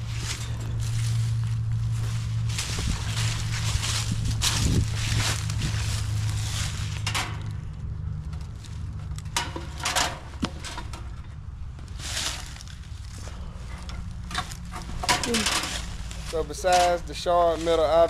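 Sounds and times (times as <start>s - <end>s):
footsteps in dry leaves: 0.0s - 9.0s, 11.4s - 14.7s, 15.3s - 18.0s
steady low rumble: 0.0s - 18.0s.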